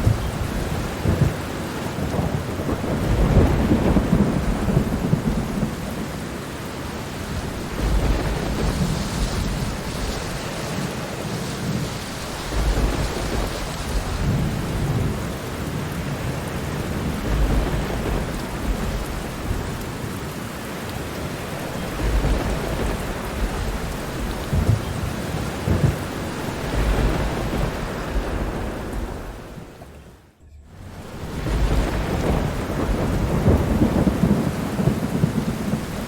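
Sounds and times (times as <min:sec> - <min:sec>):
heavy rain: 0:00.0 - 0:36.0
thunder rolling: 0:00.0 - 0:36.0.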